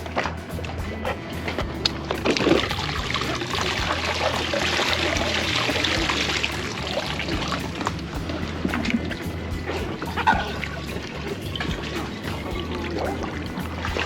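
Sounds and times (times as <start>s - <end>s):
water trickling and splashing: 0.0s - 14.0s.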